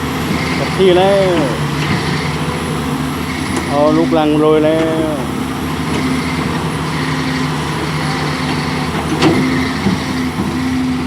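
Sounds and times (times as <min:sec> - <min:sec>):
excavator diesel engine running: 0:00.0 - 0:11.0
machine clank: 0:00.3 - 0:11.0.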